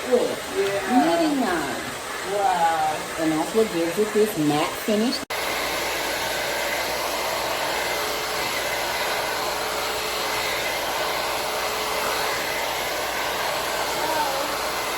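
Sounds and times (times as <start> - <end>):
hot air brush blowing: 0.0 - 14.9.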